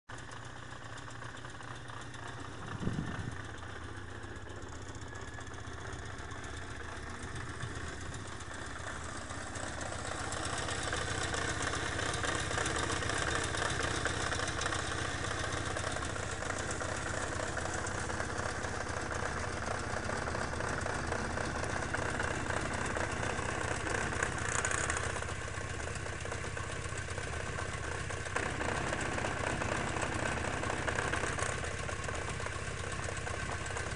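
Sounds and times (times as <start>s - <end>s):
engine knocking: 0.1s - 33.9s
motorcycle engine idling: 0.1s - 33.9s.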